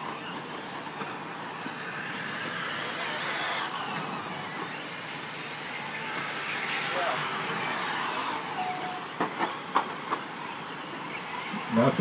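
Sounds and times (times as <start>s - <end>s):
toy truck motors whining: 0.0s - 12.0s.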